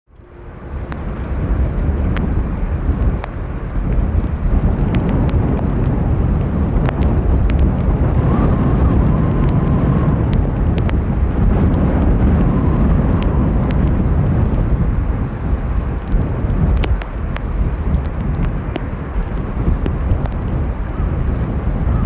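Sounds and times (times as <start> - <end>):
jet engines rumbling: 0.1 - 22.0
rain ticking: 0.1 - 22.0
wind buffeting microphone: 0.1 - 22.0.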